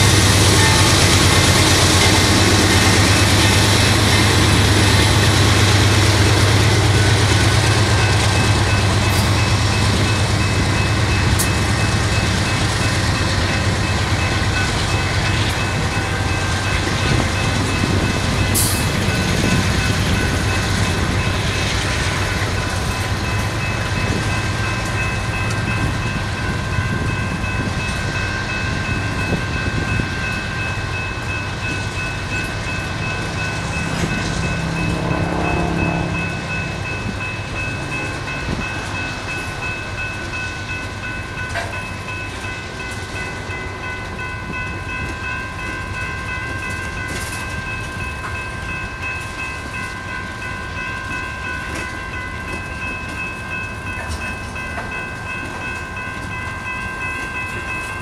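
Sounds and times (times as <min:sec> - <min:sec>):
diesel locomotive engine rumble: 0:00.0 - 0:58.0
train cars clattering on rails: 0:00.0 - 0:58.0.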